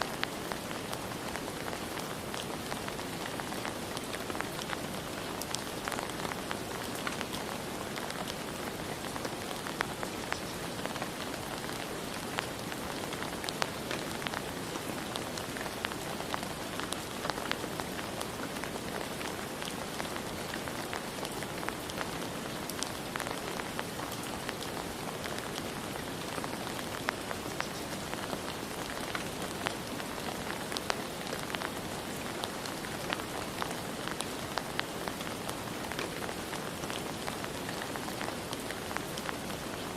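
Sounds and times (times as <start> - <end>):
raindrops ticking on a surface: 0.0 - 39.9
steady rain: 0.0 - 39.9.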